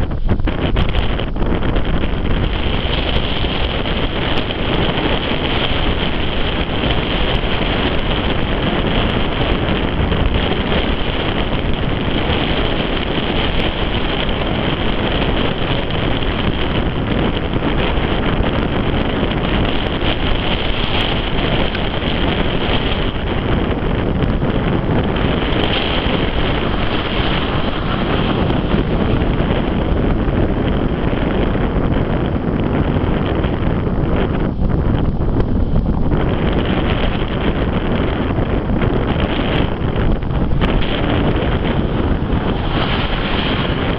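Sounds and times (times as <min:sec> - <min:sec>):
diesel locomotive rumble: 0:00.0 - 0:43.9
wind buffeting microphone: 0:00.0 - 0:43.9.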